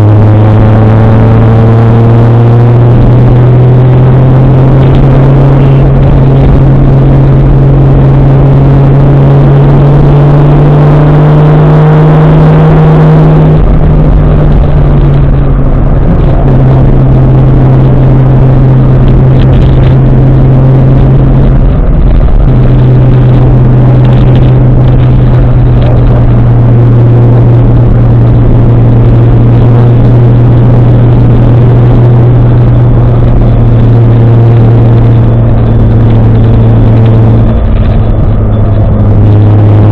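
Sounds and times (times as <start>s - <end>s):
car engine under power: 0.0s - 39.9s.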